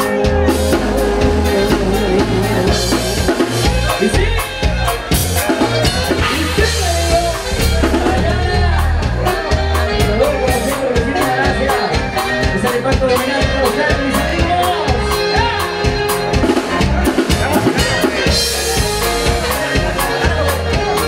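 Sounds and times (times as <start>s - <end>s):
button accordion: 0.0s - 21.0s
drum kit beat: 0.0s - 21.0s
electric bass: 0.0s - 21.0s.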